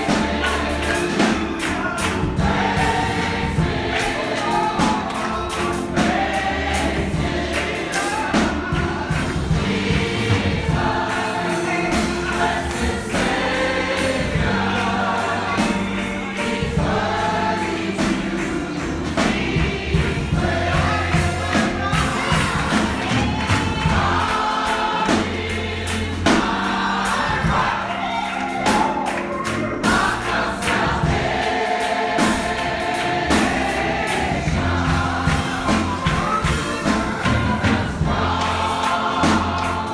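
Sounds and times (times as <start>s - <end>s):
congregation singing gospel song: 0.0s - 39.9s
percussive beat: 0.0s - 39.9s.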